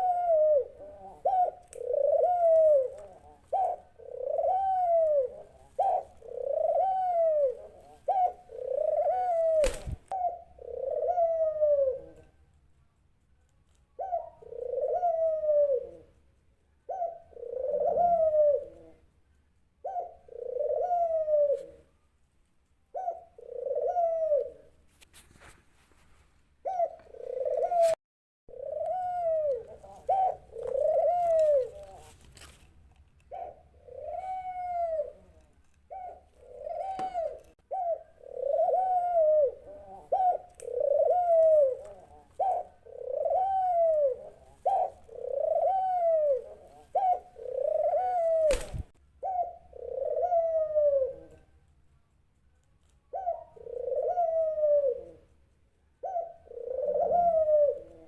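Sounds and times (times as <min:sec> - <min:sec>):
dove cooing: 0:00.0 - 0:12.4, 0:13.9 - 0:19.2, 0:19.8 - 0:22.0, 0:22.9 - 0:24.8, 0:26.6 - 0:32.5, 0:33.2 - 0:51.6, 0:53.0 - 0:55.4, 0:56.0 - 0:58.0.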